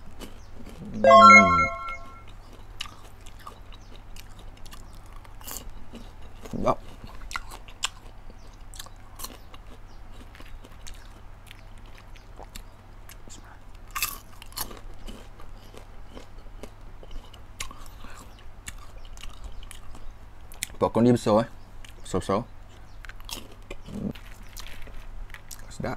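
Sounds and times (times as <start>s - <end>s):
person crunching popcorn: 0.0s - 1.0s, 2.4s - 20.8s, 23.0s - 25.8s.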